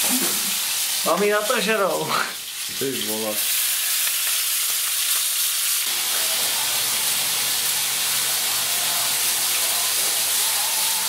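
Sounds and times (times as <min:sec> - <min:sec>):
sausage sizzling in a pan: 0:00.0 - 0:11.0.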